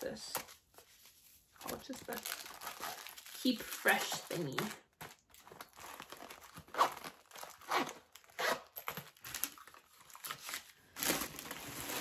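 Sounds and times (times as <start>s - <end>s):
packaging crinkling: 1.5s - 12.0s.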